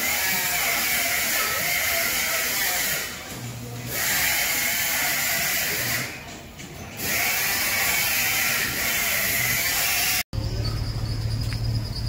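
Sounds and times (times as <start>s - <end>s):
tire changer whirring and hissing: 0.0s - 6.4s, 7.0s - 12.0s.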